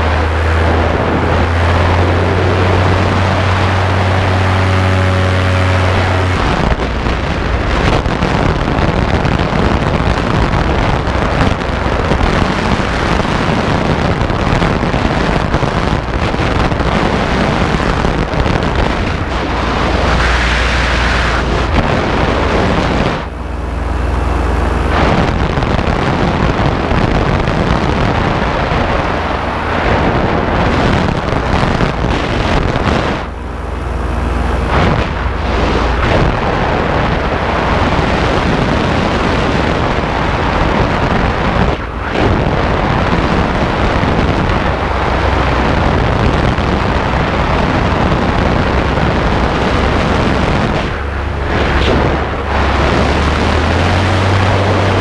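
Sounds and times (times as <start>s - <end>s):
paramotor engine drone: 0.0s - 55.0s
wind buffeting on microphone: 0.0s - 55.0s.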